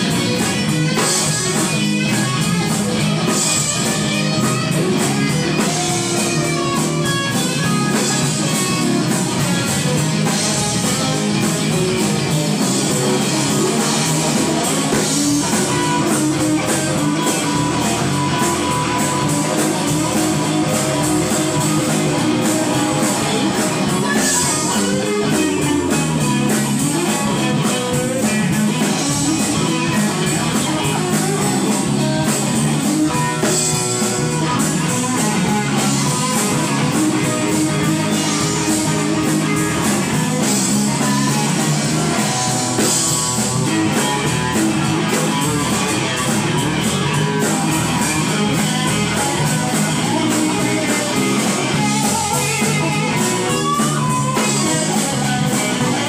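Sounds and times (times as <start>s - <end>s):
amplified electric guitar: 0.0s - 56.0s
drum kit: 0.0s - 56.0s
live rock band: 0.0s - 56.0s.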